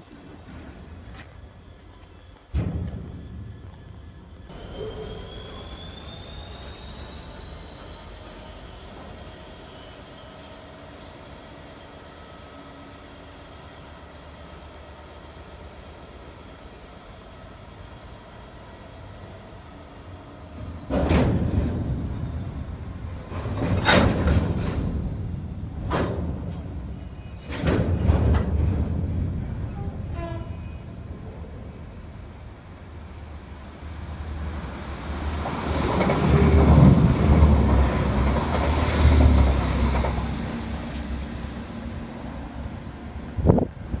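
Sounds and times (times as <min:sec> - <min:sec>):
train running on rails: 0:00.0 - 0:44.0
wheel and rail noise: 0:00.0 - 0:44.0.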